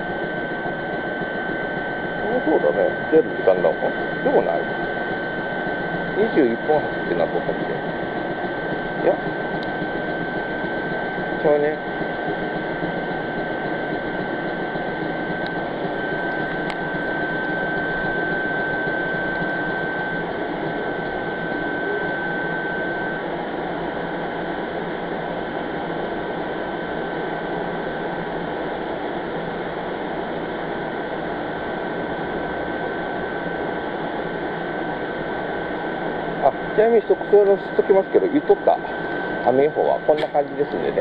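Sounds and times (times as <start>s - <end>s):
thin high whine: 0.0s - 41.0s
train equipment humming and whirring: 0.0s - 41.0s.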